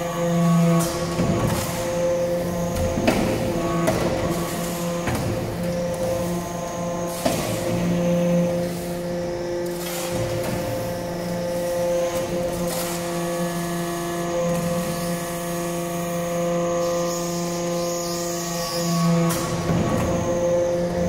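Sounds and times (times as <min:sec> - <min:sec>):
hydraulic power unit humming: 0:00.0 - 0:21.0.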